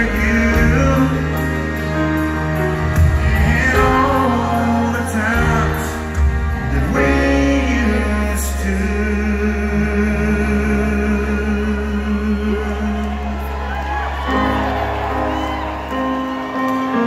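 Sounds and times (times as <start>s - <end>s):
man singing: 0.0s - 13.7s
live country ballad with band: 0.0s - 17.0s.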